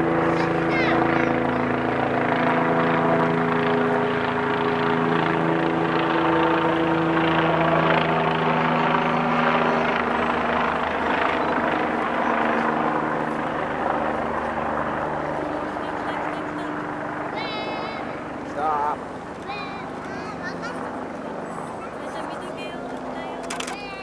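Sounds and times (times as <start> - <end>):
vehicle running noise: 0.0 - 24.0.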